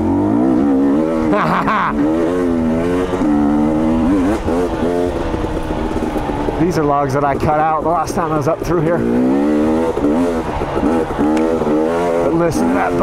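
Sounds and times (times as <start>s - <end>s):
dirt bike engine chugging: 0.0s - 13.0s.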